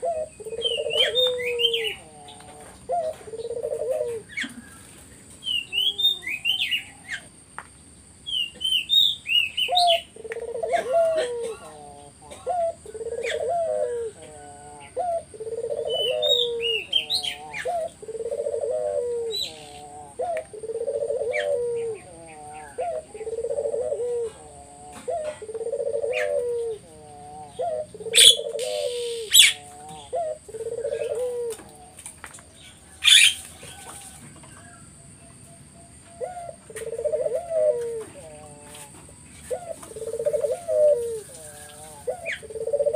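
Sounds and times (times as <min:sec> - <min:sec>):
dove cooing: 0:00.0 - 0:07.3, 0:08.3 - 0:42.9
small birds chirping: 0:00.0 - 0:42.9.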